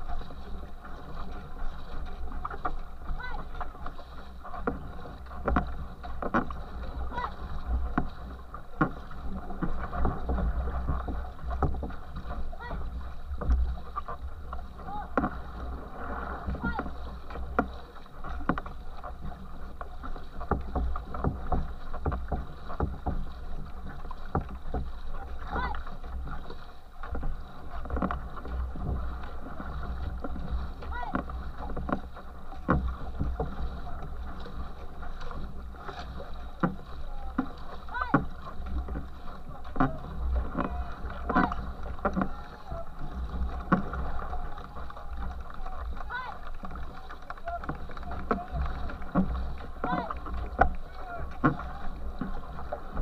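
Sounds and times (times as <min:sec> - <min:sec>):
paddle stroke splashes: 0:00.0 - 0:53.0
water churning and splashing: 0:00.0 - 0:53.0.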